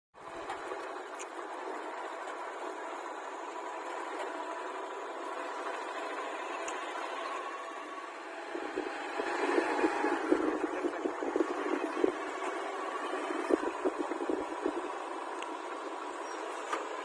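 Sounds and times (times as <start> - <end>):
heavy vehicle engine running: 0.2 - 17.0.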